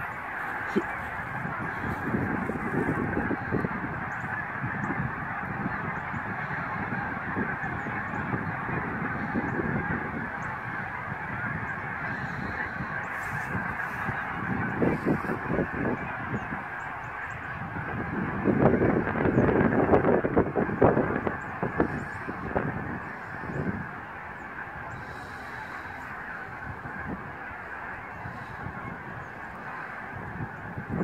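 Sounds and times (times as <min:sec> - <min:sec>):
geese honking in flight: 0:00.0 - 0:31.0.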